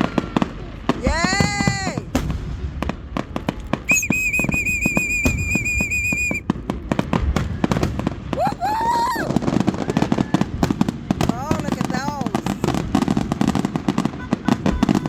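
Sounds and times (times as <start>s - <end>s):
whistling firework: 0.0s - 11.3s, 12.4s - 15.0s
fireworks crackling and popping: 0.0s - 15.0s.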